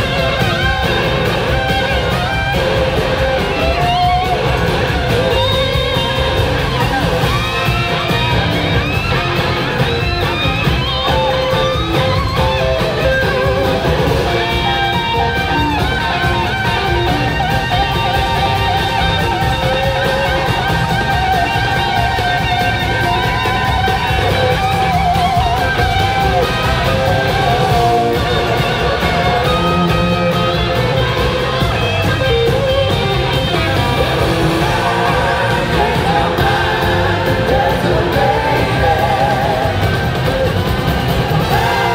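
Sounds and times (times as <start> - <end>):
electric guitar sliding notes: 0.0 - 41.9
live rock band playing: 0.0 - 41.9.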